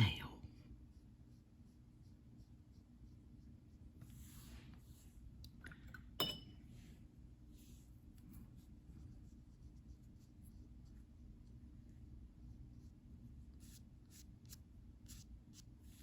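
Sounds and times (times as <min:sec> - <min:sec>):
brush strokes on paper: 0:00.6 - 0:05.2, 0:07.5 - 0:16.0.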